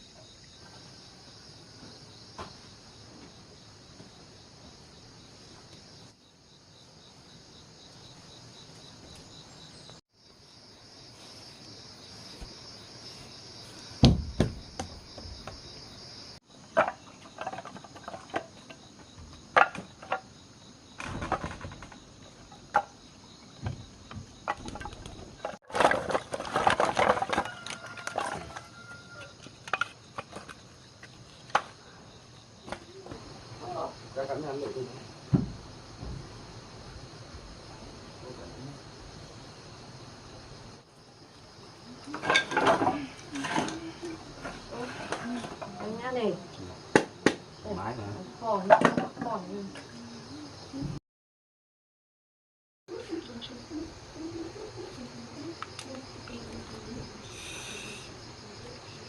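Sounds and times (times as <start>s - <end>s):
insects chirring: 0.0s - 51.0s, 52.9s - 59.0s.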